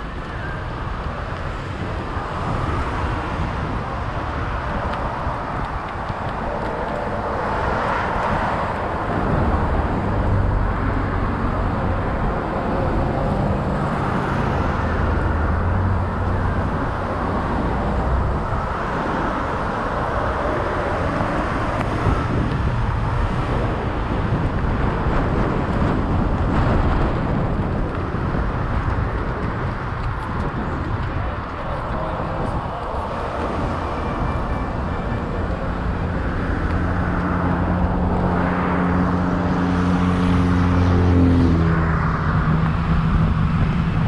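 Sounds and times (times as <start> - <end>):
low engine hum: 0.0 - 44.0
road and wind noise: 0.0 - 44.0.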